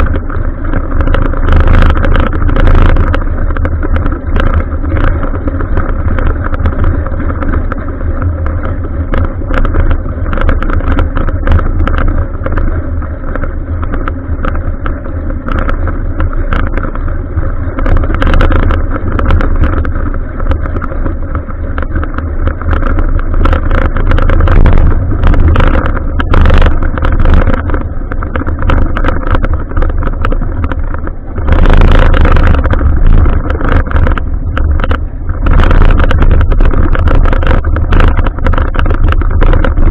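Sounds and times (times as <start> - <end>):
bicycle clicks and rattles: 0.0 - 39.9
wind rush on microphone: 0.0 - 39.9.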